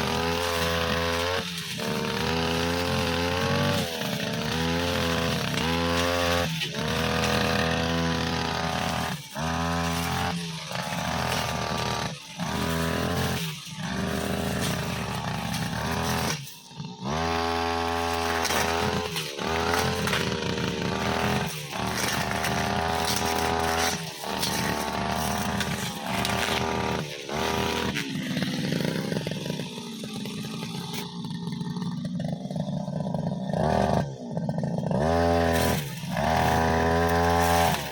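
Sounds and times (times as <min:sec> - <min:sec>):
brushcutter engine revving: 0:00.0 - 0:37.9.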